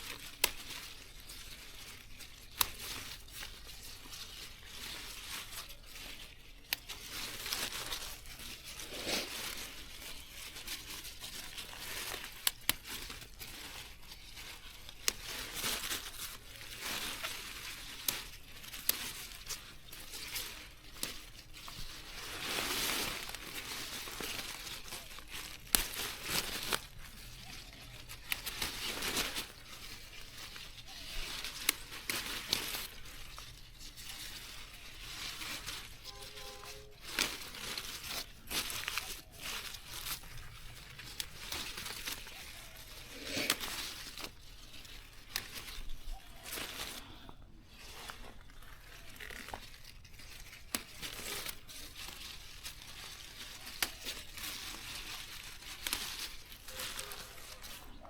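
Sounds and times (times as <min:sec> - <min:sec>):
grass rustling and tearing: 0:00.0 - 0:58.0
plant stems snapping: 0:00.0 - 0:58.0.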